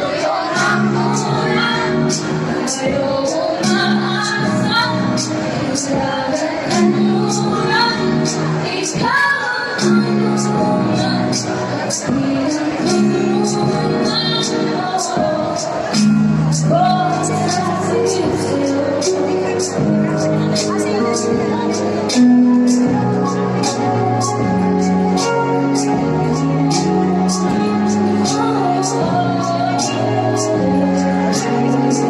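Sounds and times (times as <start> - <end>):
woman singing: 0.0 - 32.0.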